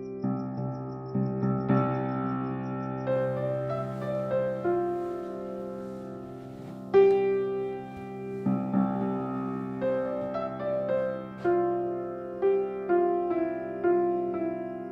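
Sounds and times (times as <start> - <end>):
soft piano music: 0.0 - 14.9.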